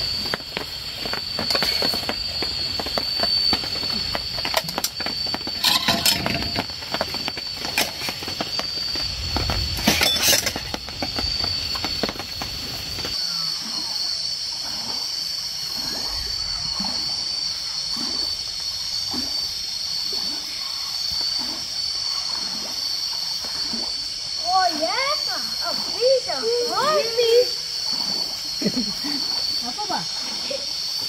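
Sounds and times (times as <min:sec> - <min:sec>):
insect pulsing trill: 0:00.0 - 0:31.0.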